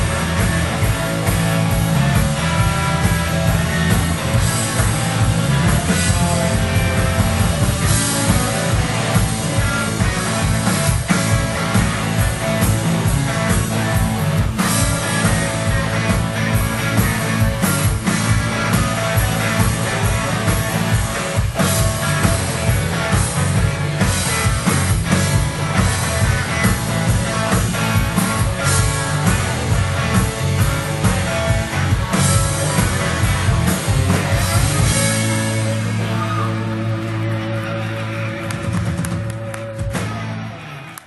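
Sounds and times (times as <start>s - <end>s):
drum kit beat: 0.0s - 40.4s
bass guitar: 0.0s - 41.0s
electric guitars: 0.0s - 41.0s.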